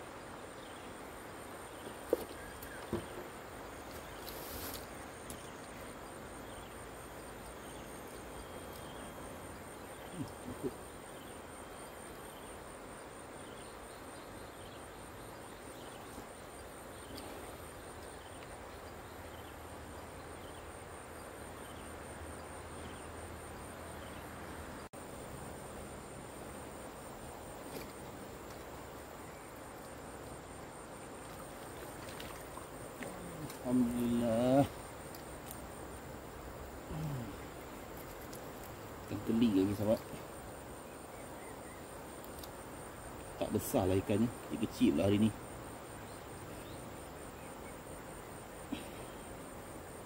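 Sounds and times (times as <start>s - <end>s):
insects trilling: 0.0s - 50.0s
outdoor background hiss: 0.0s - 50.0s.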